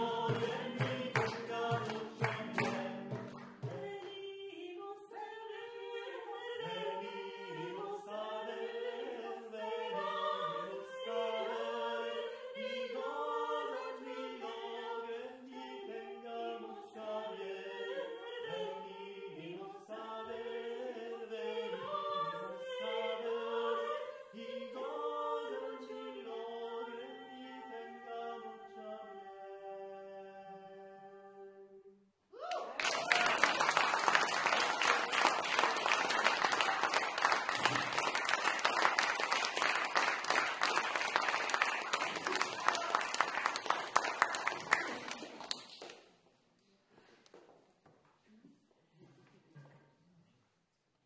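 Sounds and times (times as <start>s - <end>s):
people singing in harmony: 0.0s - 31.9s, 33.1s - 45.2s.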